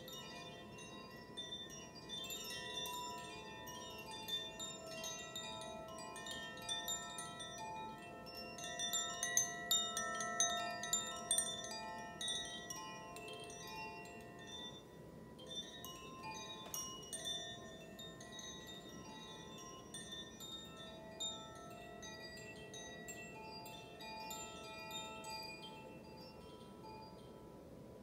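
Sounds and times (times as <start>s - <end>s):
chimes tinkling: 0.0s - 28.0s.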